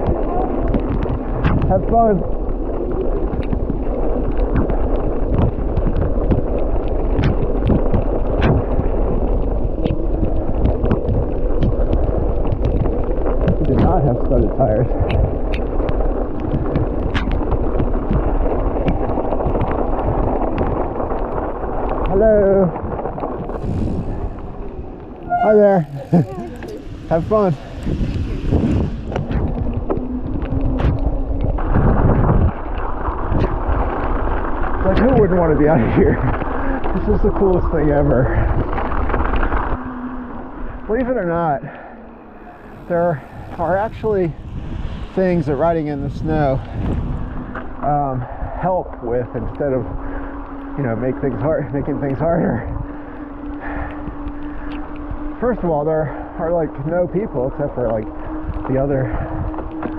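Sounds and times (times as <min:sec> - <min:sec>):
bike clicks and knocks over bumps: 0:00.0 - 0:44.5, 0:45.1 - 0:59.9
bike tyres rolling over snow: 0:00.0 - 0:59.9
wind buffeting microphone: 0:00.0 - 0:59.9.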